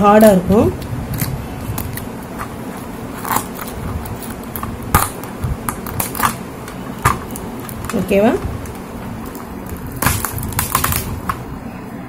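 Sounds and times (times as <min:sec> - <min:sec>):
scissors cracking lobster shell: 0:00.8 - 0:11.4.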